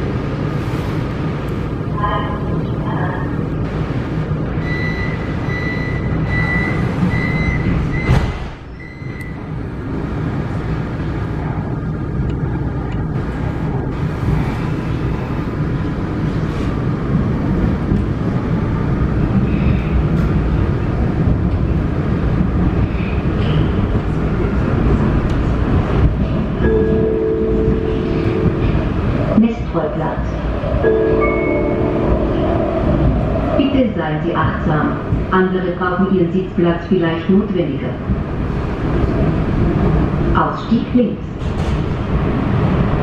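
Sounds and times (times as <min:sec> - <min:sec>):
subway train rumble: 0:00.0 - 0:43.0.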